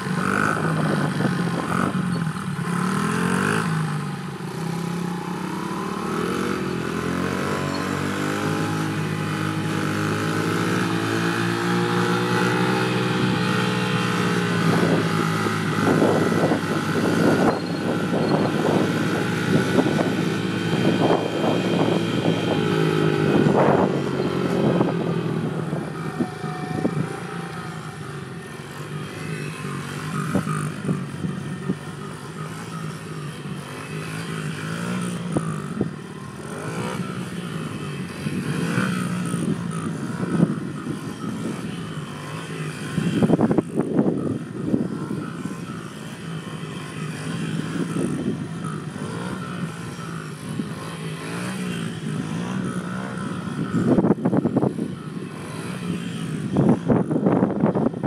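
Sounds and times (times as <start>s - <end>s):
small motorbike engine revving: 0.0s - 58.0s.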